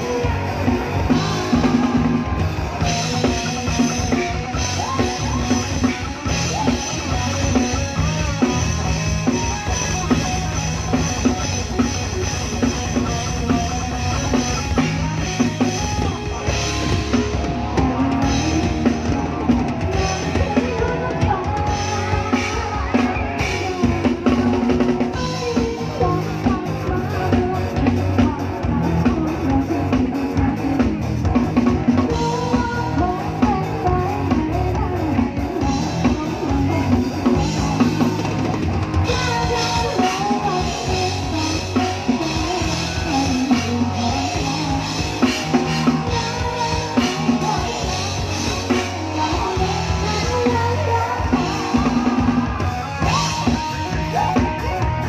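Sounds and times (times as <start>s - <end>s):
drum kit beat: 0.0s - 55.0s
live band music: 0.0s - 55.0s.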